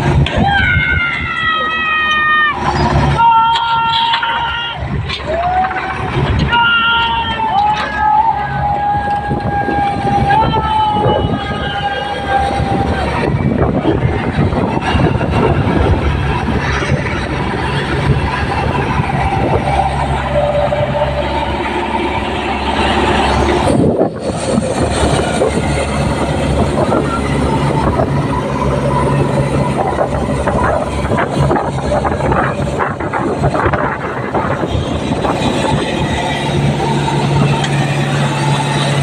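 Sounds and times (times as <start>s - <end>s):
diesel engines running loudly: 0.0s - 39.0s
engine clatter: 0.0s - 39.0s.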